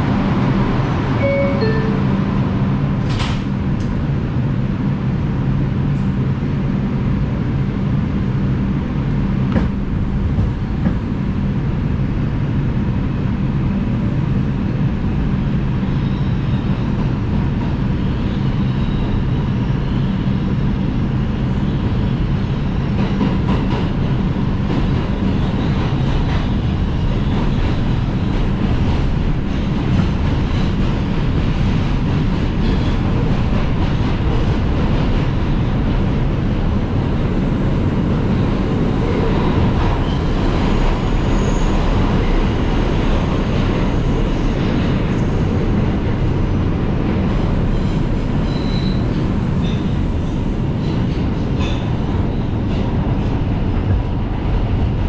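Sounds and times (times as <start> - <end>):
subway train wheels rumbling on rail: 0.0 - 55.0.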